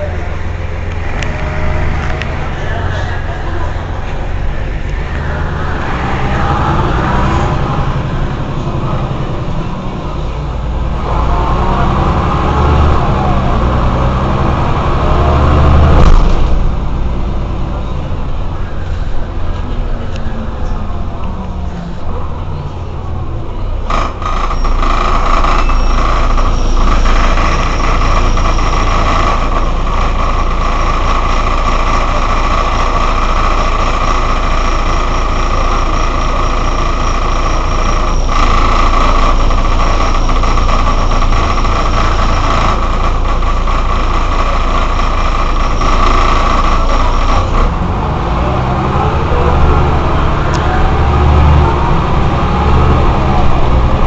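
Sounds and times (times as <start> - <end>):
bus engine idling: 0.0 - 54.0
high whine: 0.0 - 54.0.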